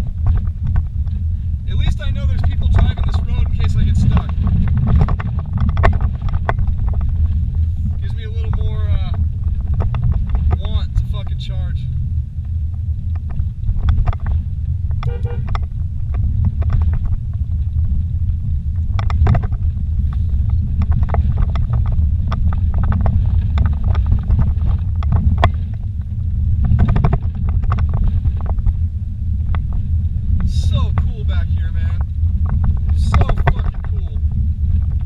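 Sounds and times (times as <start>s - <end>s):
knocks and rattles: 0.0s - 35.0s
vehicle rumbling on rough track: 0.0s - 35.0s.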